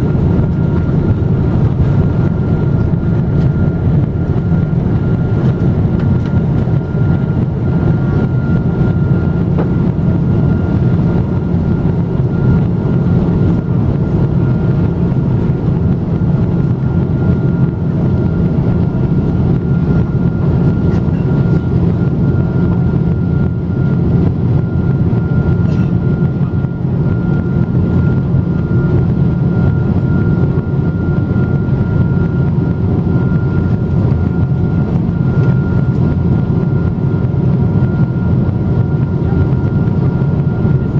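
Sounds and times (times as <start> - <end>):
airplane cabin engine rumble: 0.0 - 40.9
faint steady whine: 0.0 - 40.9.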